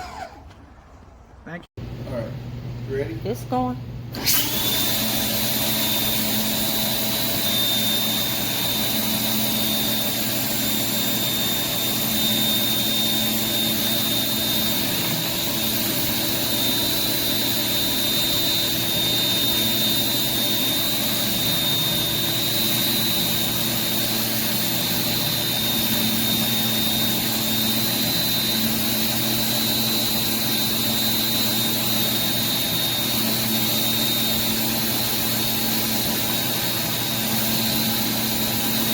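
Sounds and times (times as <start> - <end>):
pressure washer drone and whine: 0.0 - 0.6, 2.0 - 38.9.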